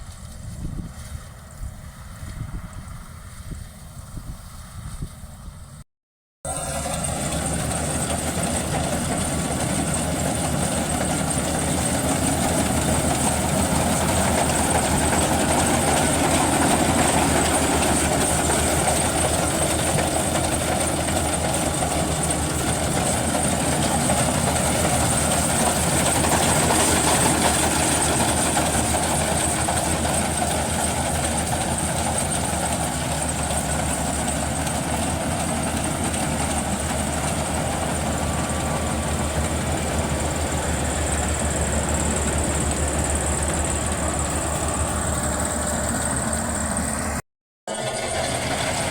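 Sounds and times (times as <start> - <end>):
combine harvester running: 0.0 - 5.8, 6.5 - 48.9.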